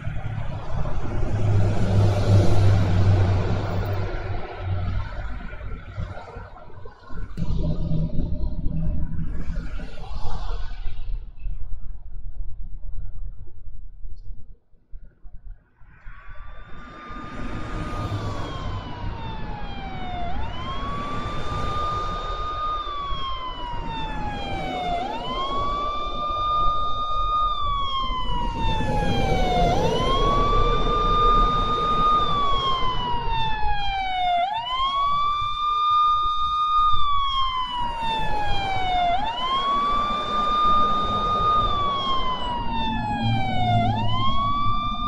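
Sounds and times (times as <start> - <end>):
traffic rumble: 0.0 - 10.5, 16.8 - 45.0
siren wailing: 0.0 - 11.4, 16.1 - 45.0.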